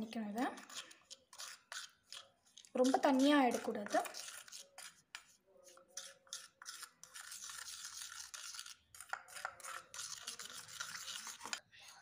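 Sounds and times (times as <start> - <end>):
spoon scraping plastic bowl: 0.0 - 11.6.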